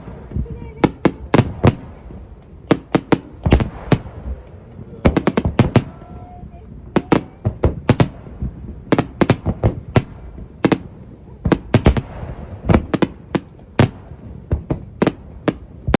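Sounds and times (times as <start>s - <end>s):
fireworks booming: 0.0s - 16.0s
fireworks crackling: 0.0s - 16.0s.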